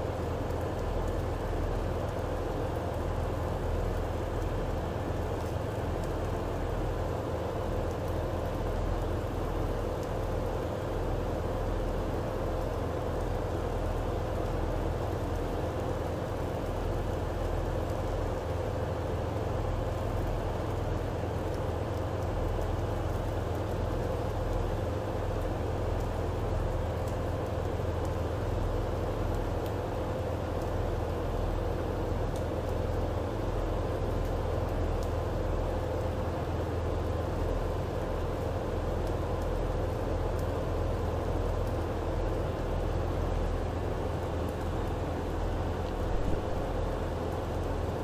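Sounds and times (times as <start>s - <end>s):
constant hum: 0.0s - 48.0s.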